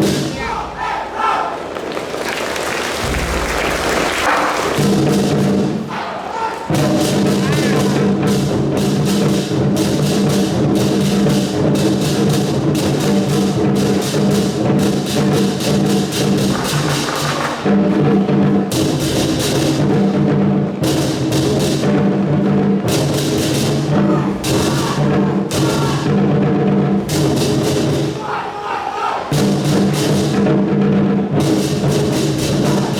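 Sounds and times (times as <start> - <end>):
drums: 0.0 - 32.9.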